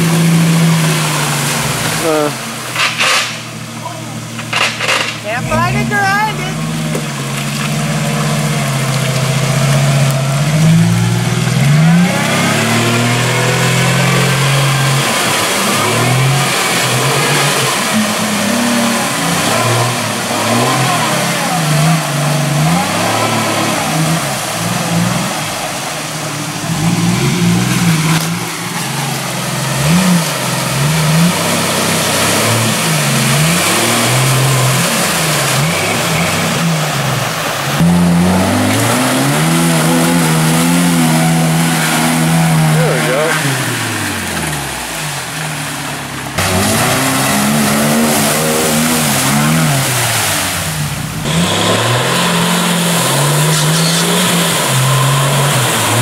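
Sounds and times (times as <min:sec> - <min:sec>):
engine revving: 0:00.0 - 0:56.0
muddy water splashing: 0:00.0 - 0:56.0
tyres churning mud: 0:00.0 - 0:56.0.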